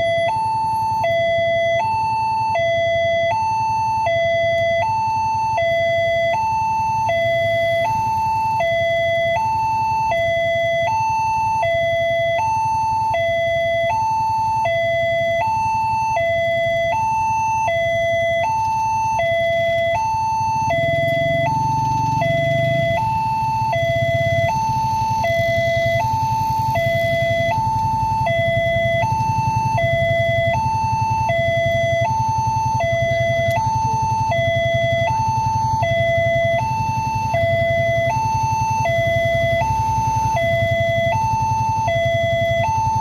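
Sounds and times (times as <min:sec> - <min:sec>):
two-tone crossing alarm: 0:00.0 - 0:43.0.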